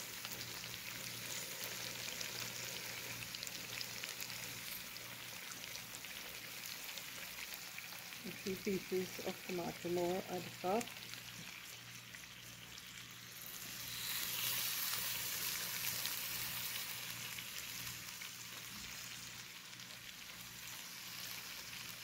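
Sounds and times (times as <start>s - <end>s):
curry sizzling in oil: 0.0s - 22.0s.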